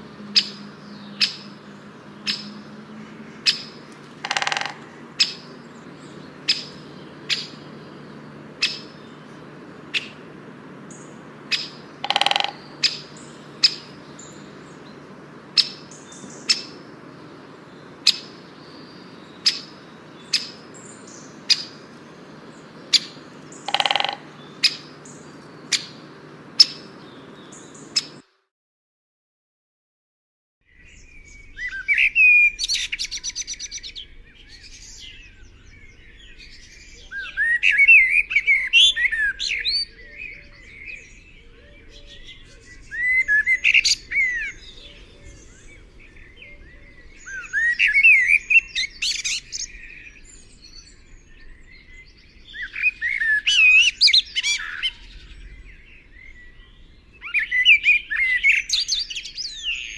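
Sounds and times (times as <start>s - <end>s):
bird trills and chirps: 0.0s - 28.2s, 30.7s - 59.9s
songbird warbling: 0.0s - 28.2s, 30.8s - 59.9s.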